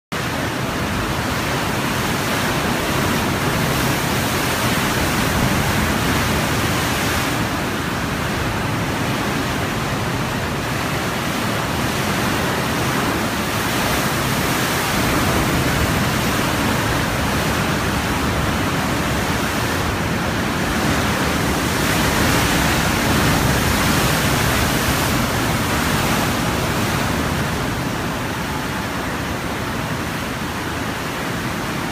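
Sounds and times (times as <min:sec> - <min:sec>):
waves surging into sea cave: 0:00.2 - 0:31.9.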